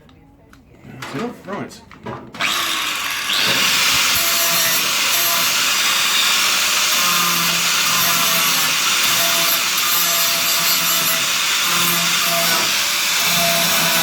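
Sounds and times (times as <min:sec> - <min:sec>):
angle grinder grinding steel: 0:02.4 - 0:14.0.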